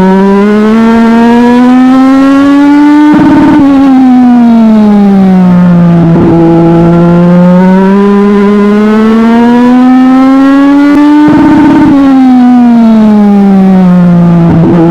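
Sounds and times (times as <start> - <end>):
race car engine revving: 0.0 - 14.9.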